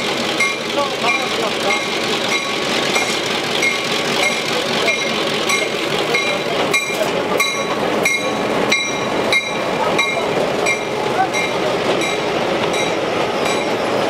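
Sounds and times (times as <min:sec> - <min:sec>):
diesel locomotive rumbling: 0:00.0 - 0:14.0
bell ringing: 0:00.4 - 0:13.8.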